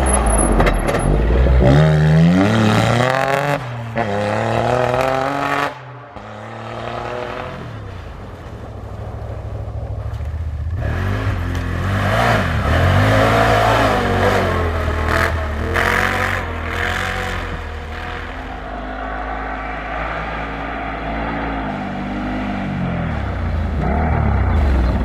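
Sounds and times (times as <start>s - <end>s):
car engine revving and shifting: 0.0s - 7.9s, 9.3s - 25.0s.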